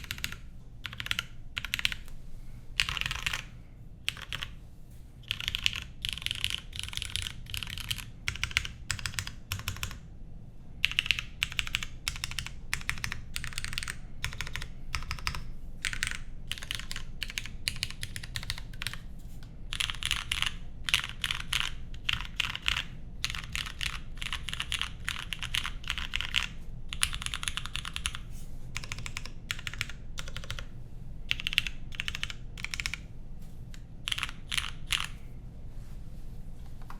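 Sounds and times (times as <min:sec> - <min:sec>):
mechanical keyboard typing: 0:00.0 - 0:02.1, 0:02.8 - 0:03.5, 0:04.1 - 0:04.5, 0:05.2 - 0:10.0, 0:10.8 - 0:19.1, 0:19.7 - 0:28.2, 0:28.8 - 0:30.7, 0:31.3 - 0:33.1, 0:34.0 - 0:35.2.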